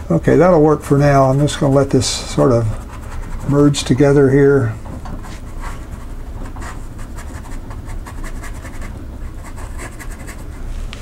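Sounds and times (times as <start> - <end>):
brush scratching on paper: 1.0 - 4.3, 5.2 - 10.8.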